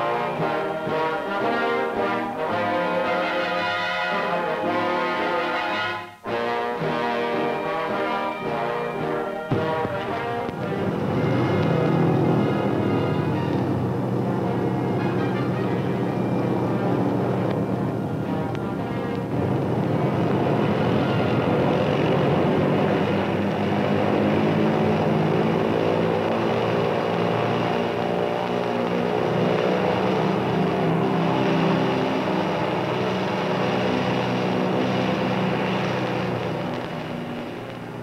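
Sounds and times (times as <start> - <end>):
piston engines roaring: 0.0 - 38.0.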